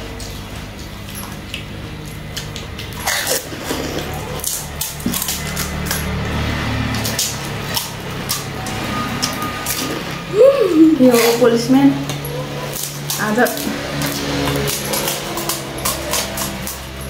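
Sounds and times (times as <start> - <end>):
crisp shells cracking and crunching: 0.1 - 9.9, 12.1 - 17.0.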